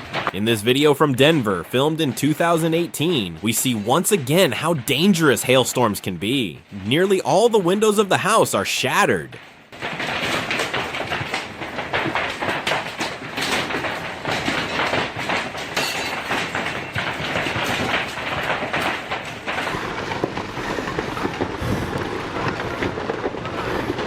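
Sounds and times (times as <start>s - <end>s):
hailstones pelting a house: 0.0s - 24.0s.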